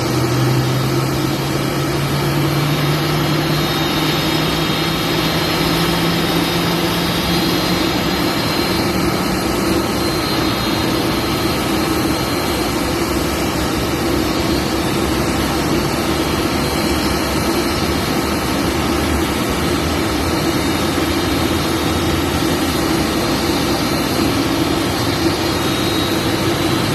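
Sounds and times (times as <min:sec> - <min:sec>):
jet aircraft noise: 0:00.0 - 0:26.9.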